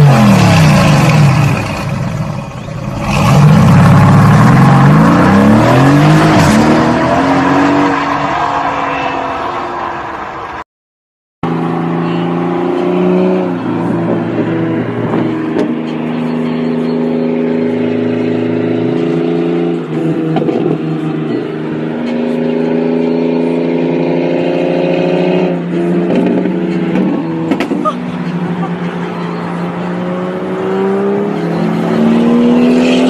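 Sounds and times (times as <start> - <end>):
car engine accelerating through gears: 2.8 - 8.5, 11.4 - 33.0.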